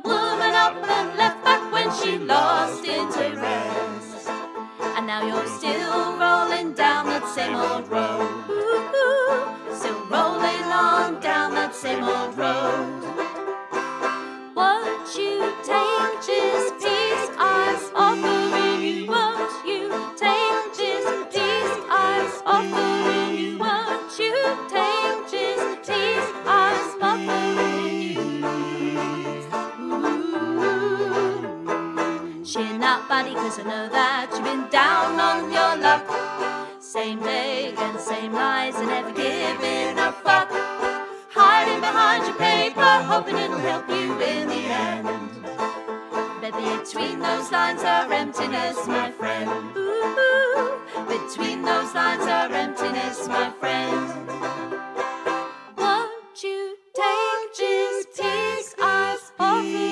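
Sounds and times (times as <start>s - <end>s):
person singing: 0.0s - 13.4s, 14.6s - 40.6s, 41.2s - 45.7s, 46.4s - 54.6s, 55.8s - 59.9s
plucked strings: 0.0s - 56.1s.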